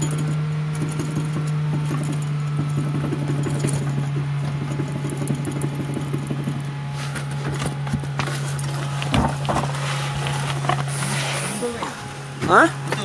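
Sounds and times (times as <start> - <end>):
car rattling and knocking: 0.0 - 11.0
steady low hum: 0.0 - 13.0.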